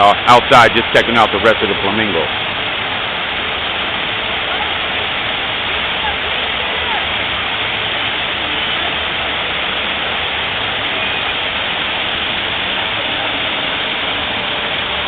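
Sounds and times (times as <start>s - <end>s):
waterfall pouring into pond: 0.0s - 15.0s.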